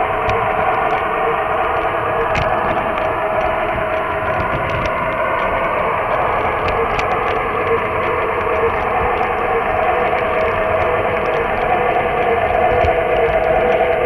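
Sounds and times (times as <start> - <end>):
wheels clicking on rails: 0.0 - 14.0.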